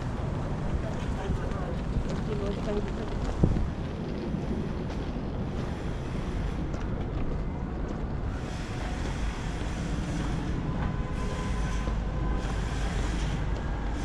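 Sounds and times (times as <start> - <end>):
city street rumble: 0.0 - 14.0
wind buffeting microphone: 0.0 - 14.0.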